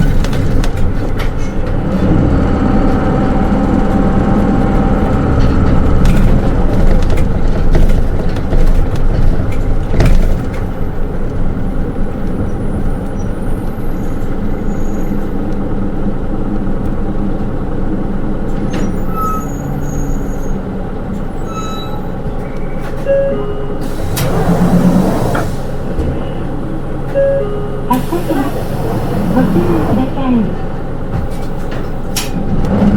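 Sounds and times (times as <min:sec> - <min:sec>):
bus diesel engine: 0:00.0 - 0:32.9
road rumble: 0:00.0 - 0:32.9.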